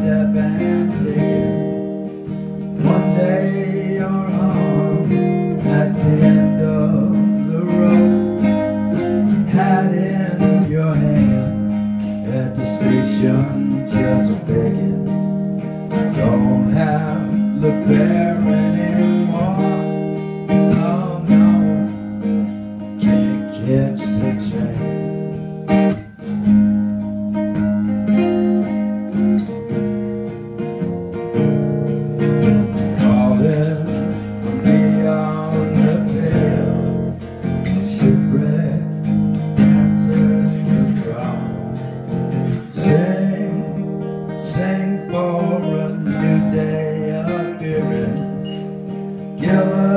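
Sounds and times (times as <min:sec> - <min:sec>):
man singing: 0:00.0 - 0:25.5, 0:32.9 - 0:48.6, 0:49.2 - 0:49.9
guitar playing slow chords: 0:00.0 - 0:49.9.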